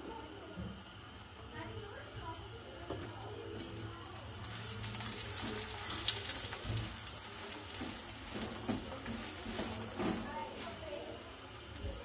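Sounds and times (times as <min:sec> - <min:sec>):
oil sizzling and crackling: 0:00.0 - 0:12.0
oil popping: 0:02.4 - 0:12.0.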